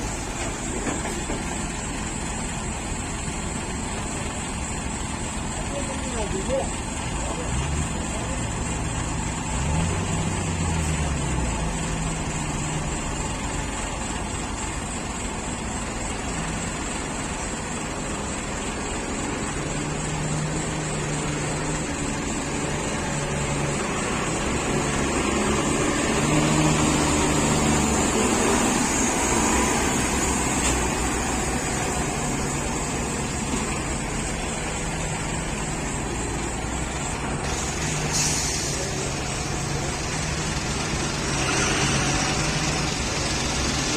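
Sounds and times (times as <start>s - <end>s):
road noise: 0.0s - 43.9s
truck diesel engine running: 0.0s - 43.9s.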